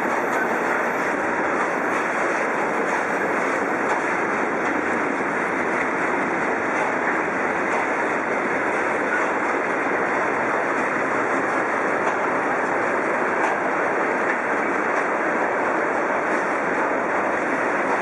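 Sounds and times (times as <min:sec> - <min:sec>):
freight train rolling on rails: 0:00.0 - 0:18.0.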